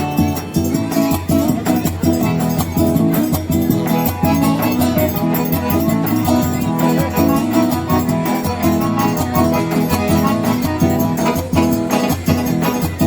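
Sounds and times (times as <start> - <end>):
steady percussion beat: 0.0 - 13.0.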